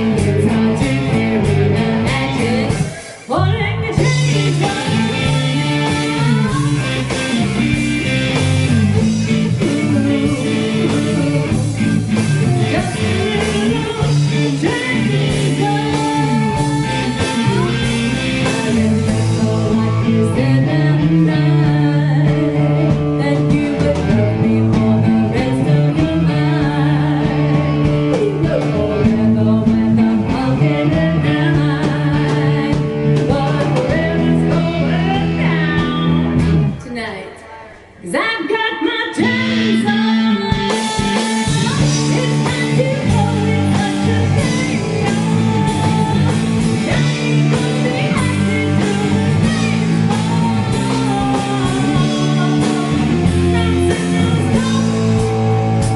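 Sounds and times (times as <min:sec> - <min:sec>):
person singing: 0:00.0 - 0:55.9
rock band playing live: 0:00.0 - 0:55.9.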